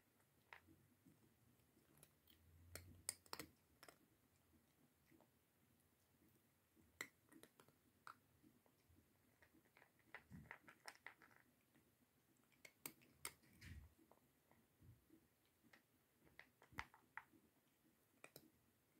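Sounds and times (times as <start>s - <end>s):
cat chewing food: 0.1s - 5.4s, 6.0s - 18.6s.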